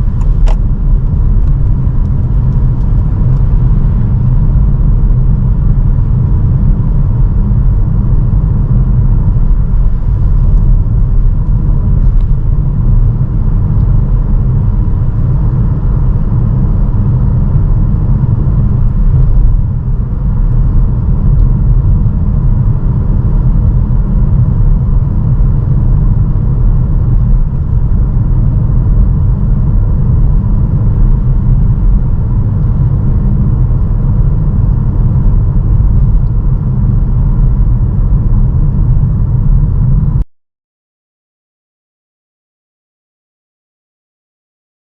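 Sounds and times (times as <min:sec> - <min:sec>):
road and wind noise rumble: 0:00.0 - 0:40.2.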